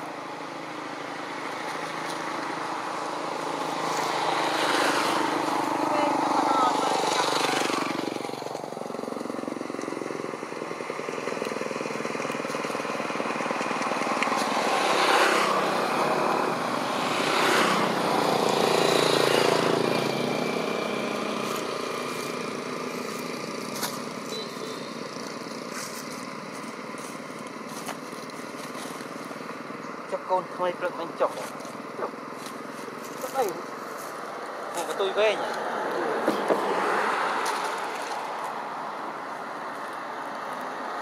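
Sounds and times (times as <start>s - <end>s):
motor vehicles passing: 0.0s - 41.0s.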